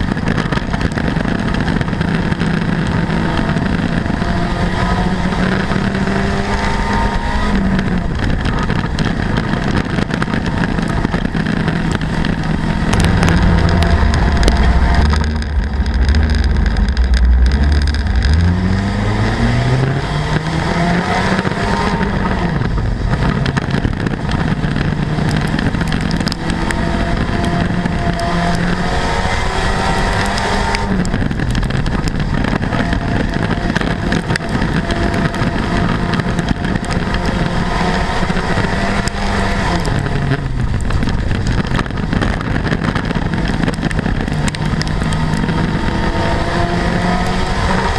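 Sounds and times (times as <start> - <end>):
race car engine revving: 0.0 - 47.9
low engine rumble: 6.7 - 47.9.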